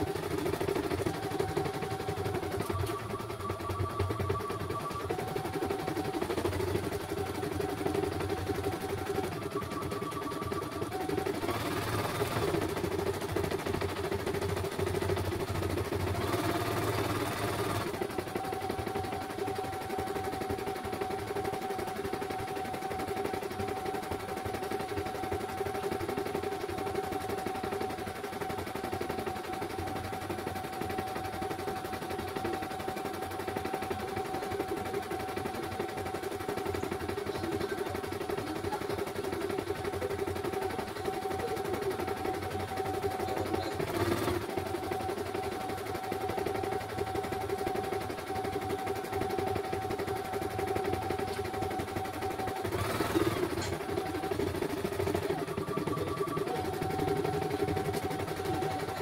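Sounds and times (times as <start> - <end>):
embroidery machine stitching: 0.0 - 59.0.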